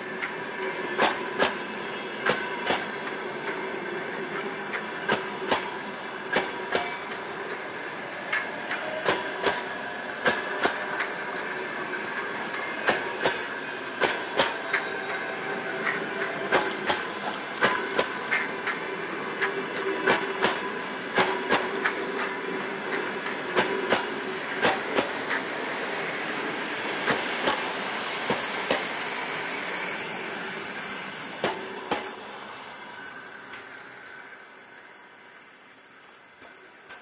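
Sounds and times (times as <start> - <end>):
train rolling rumble: 0.0 - 37.0
train wheels clicking over rail joints: 0.0 - 37.0.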